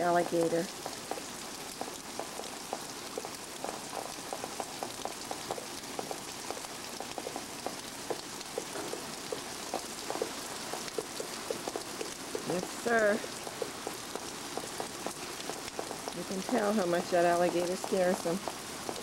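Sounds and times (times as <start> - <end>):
heavy rain hissing: 0.0 - 19.0
raindrops plopping on water: 0.0 - 19.0.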